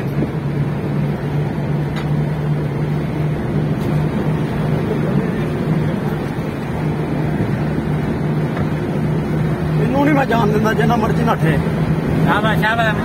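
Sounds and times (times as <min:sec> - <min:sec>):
car engine under load: 0:00.0 - 0:13.0
tyre and road rumble: 0:00.0 - 0:13.0.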